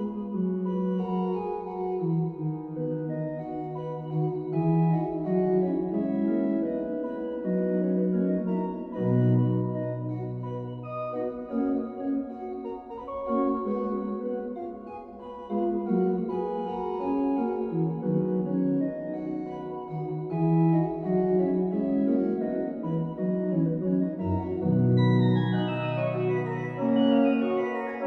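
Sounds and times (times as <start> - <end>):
baroque pipe organ piece: 0.0 - 28.0.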